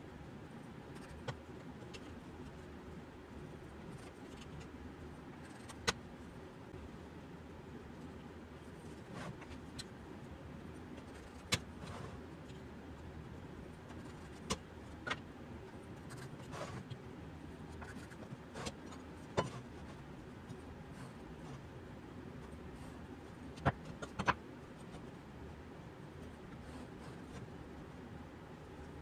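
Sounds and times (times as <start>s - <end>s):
faint steady low hum: 0.0s - 29.0s.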